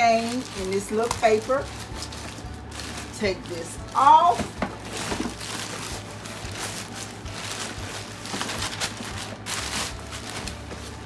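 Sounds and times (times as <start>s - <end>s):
paper wrapping rustling: 0.0s - 11.0s.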